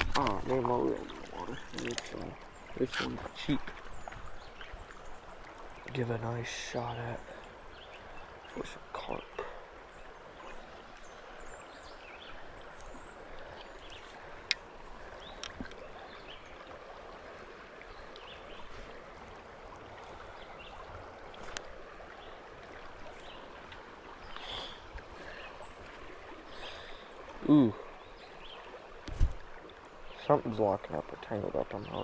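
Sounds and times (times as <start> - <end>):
creek water running: 0.0 - 32.0.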